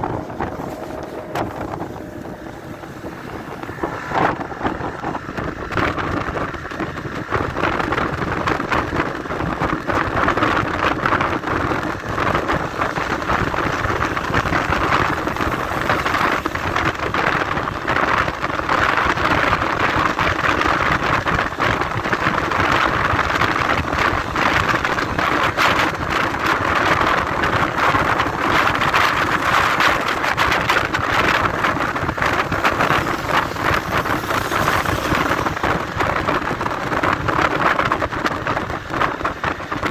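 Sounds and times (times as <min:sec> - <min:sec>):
motorcycle engine and road noise: 0:00.0 - 0:39.9
wind buffeting microphone: 0:00.0 - 0:39.9.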